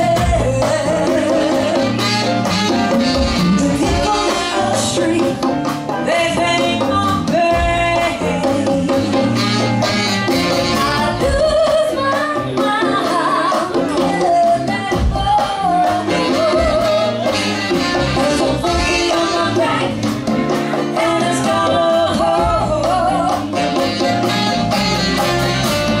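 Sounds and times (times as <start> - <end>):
woman singing: 0.0 - 9.9, 10.5 - 24.6
funk band playing: 0.0 - 26.0.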